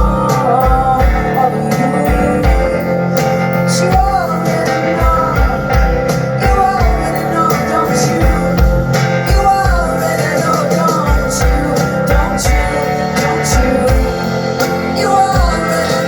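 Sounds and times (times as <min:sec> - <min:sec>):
guitar: 0:00.0 - 0:16.0
person singing: 0:00.0 - 0:16.0.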